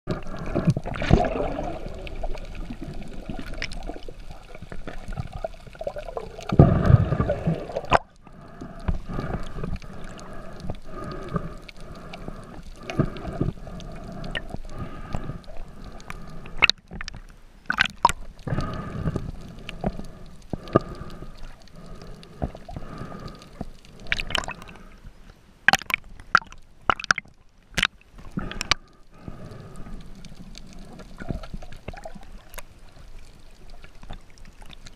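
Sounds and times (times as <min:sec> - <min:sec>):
underwater rush of water: 0:00.1 - 0:34.9.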